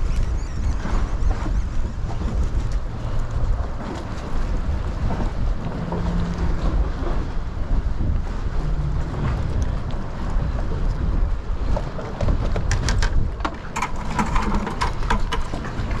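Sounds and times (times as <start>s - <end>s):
water lapping around boat: 0.0s - 16.0s
wind buffeting microphone: 0.0s - 16.0s.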